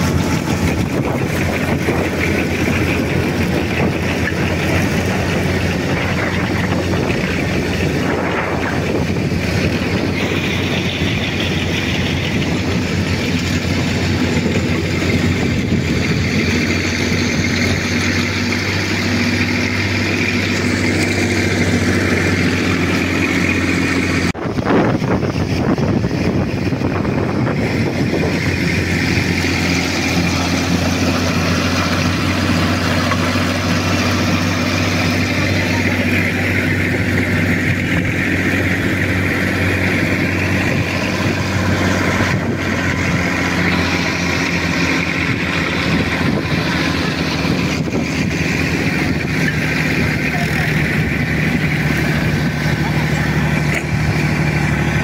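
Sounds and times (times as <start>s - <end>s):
tractor diesel engine running: 0.0s - 55.0s
winch drum hauling rope: 0.0s - 55.0s.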